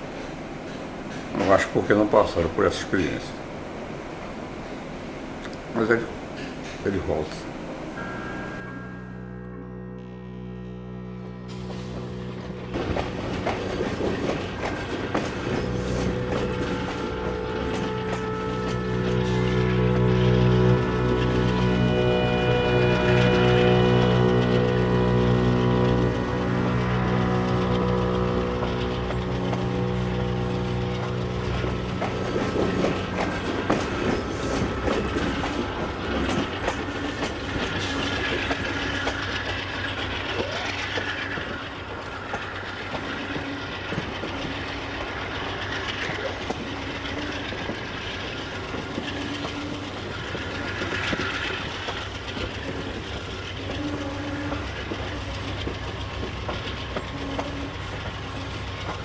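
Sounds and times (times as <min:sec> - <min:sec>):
low hum: 0:00.0 - 0:59.0
train running on rails: 0:00.0 - 0:59.0.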